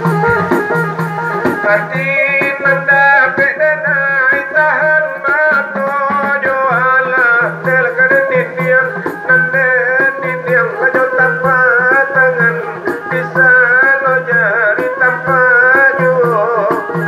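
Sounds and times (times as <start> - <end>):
bowed fiddle melody: 0.0 - 17.0
light regular beat: 0.0 - 17.0.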